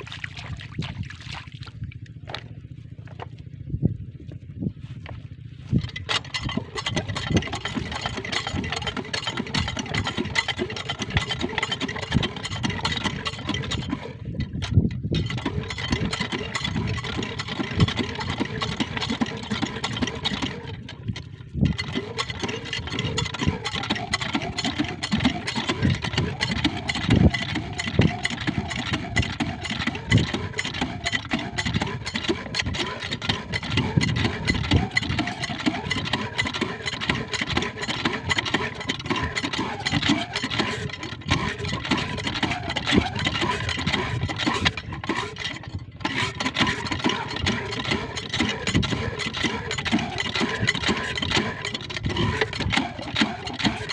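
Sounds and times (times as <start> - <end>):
diesel water pump engine chugging: 0.0 - 53.9.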